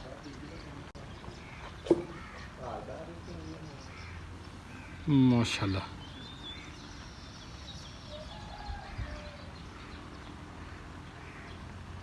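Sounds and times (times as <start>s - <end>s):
faint bird calls: 0.3s - 11.8s.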